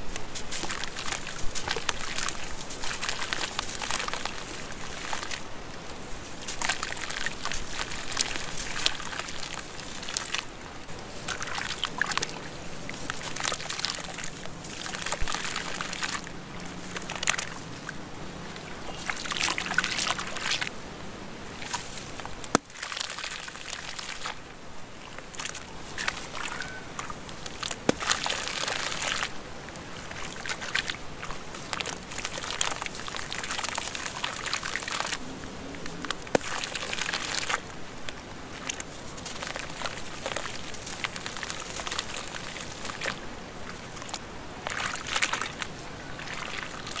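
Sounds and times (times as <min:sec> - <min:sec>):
wet clay crunching in hand: 0:00.1 - 0:20.7, 0:21.6 - 0:24.4, 0:25.2 - 0:47.0.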